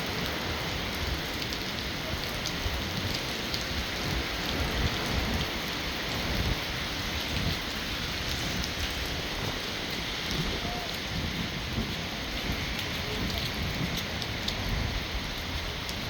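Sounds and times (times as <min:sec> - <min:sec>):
close raindrop hits: 0:00.0 - 0:16.0
heavy rain falling: 0:00.0 - 0:16.0.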